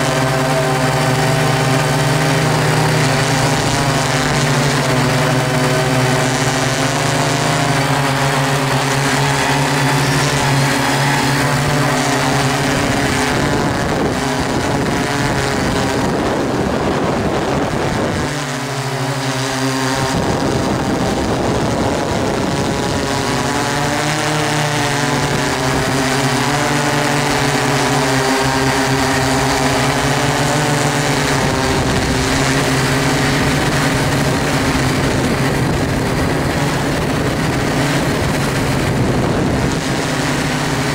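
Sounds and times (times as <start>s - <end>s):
drone motors humming: 0.0s - 40.9s.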